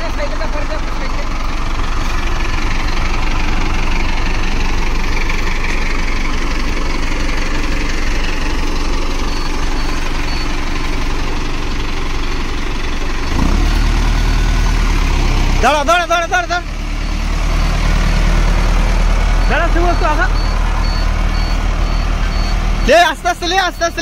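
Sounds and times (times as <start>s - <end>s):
tractor diesel engine rumbling: 0.0s - 24.0s.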